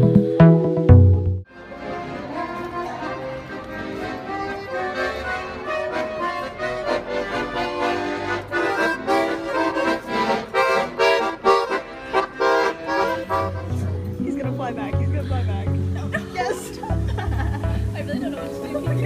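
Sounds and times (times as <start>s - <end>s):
accordion music: 0.0s - 19.0s.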